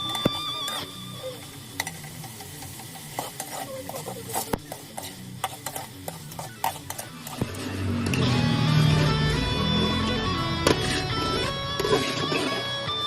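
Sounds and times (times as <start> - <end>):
faint sizzle: 0.0 - 13.0
utensil scraping a pan: 0.0 - 13.0.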